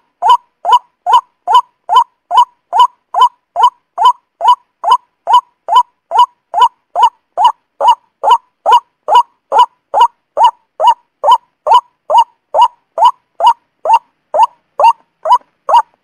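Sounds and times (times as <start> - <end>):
bird call repeating: 0.2 - 16.0.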